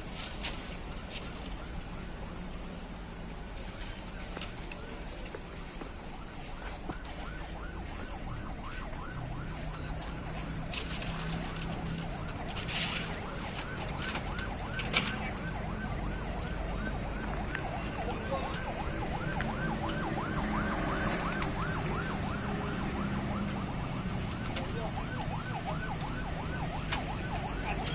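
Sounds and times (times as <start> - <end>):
diesel engine humming: 0.8 - 27.9
siren yelping: 1.2 - 27.9.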